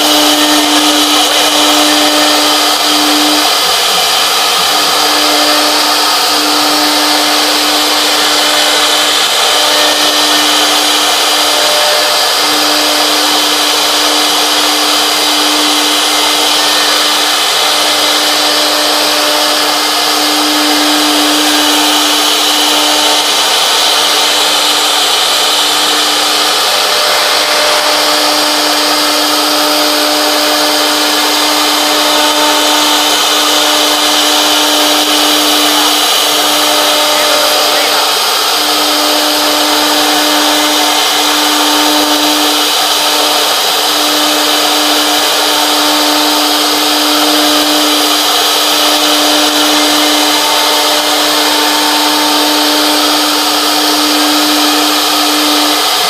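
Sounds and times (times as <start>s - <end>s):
router bit hissing through wood: 0.0s - 56.0s
spindle motor whine: 0.0s - 56.0s.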